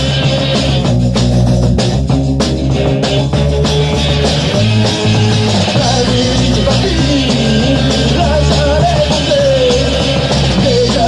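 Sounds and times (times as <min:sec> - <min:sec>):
punk rock song: 0:00.0 - 0:11.0.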